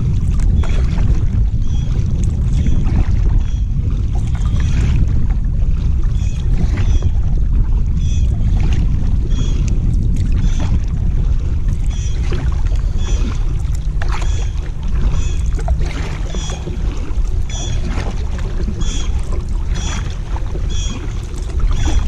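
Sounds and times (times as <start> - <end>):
constant low rumble: 0.0 - 22.0
paddle strokes in water: 0.0 - 22.0.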